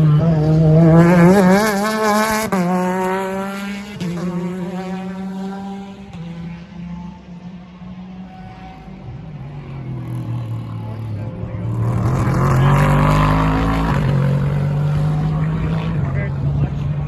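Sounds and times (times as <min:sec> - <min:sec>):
race car engine passing by: 0:00.0 - 0:17.0.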